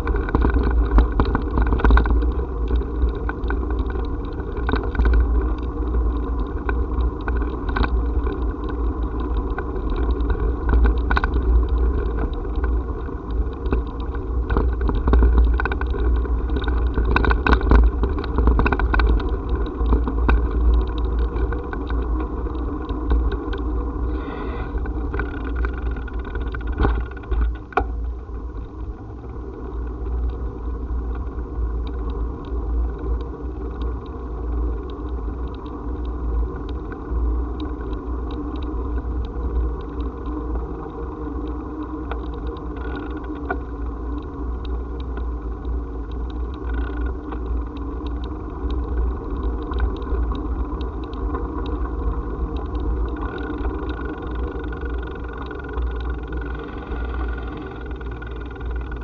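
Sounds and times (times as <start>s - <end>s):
small rattling clicks: 0.0s - 59.0s
wind rumble: 0.0s - 59.0s.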